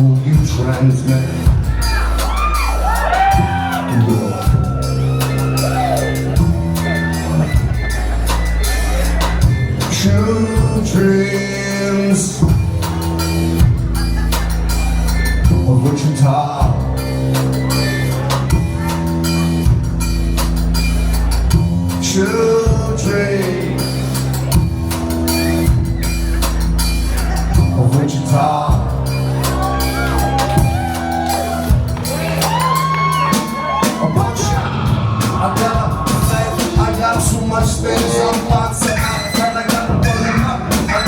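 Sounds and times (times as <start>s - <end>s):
drums: 0.0s - 41.0s
held bass notes: 0.0s - 41.0s.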